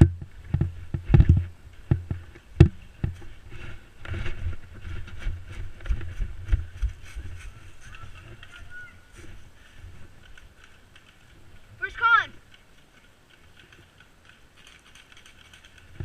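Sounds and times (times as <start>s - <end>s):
low thumps and rustling: 0.0s - 11.8s, 12.4s - 16.0s.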